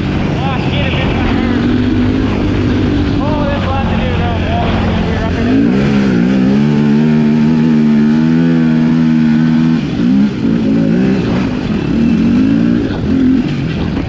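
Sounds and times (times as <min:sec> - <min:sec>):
quad bike engine revving: 0:00.0 - 0:14.0.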